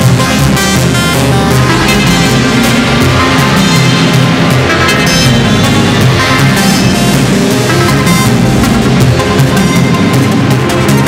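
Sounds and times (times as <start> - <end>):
loud music with driving beat: 0.0 - 11.0.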